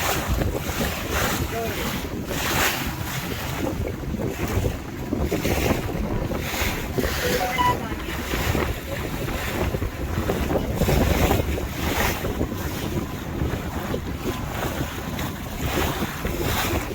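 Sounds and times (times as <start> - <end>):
water rushing along boat hull: 0.0 - 16.9
wind buffeting microphone: 0.0 - 16.9.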